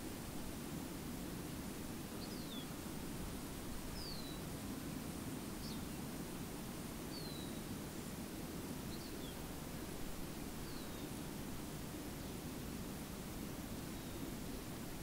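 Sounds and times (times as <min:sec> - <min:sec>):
low rushing outdoor ambience: 0:00.0 - 0:15.0.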